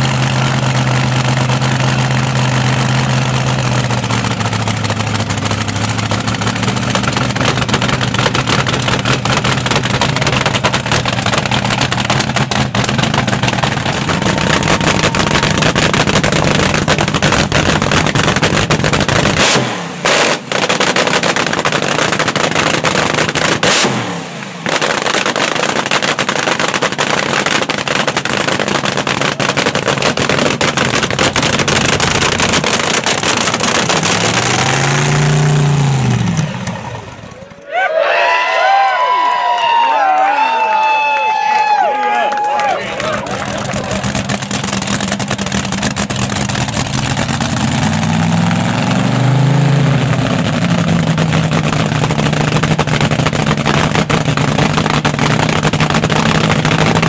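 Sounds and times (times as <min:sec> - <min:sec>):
loud dragster engine: 0:00.0 - 0:37.6, 0:40.8 - 0:57.0.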